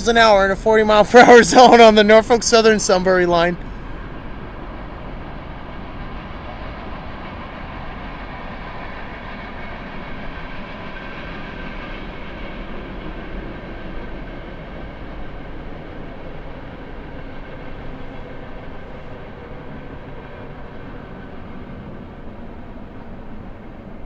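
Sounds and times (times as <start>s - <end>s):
train wheels on rail: 3.6s - 24.0s.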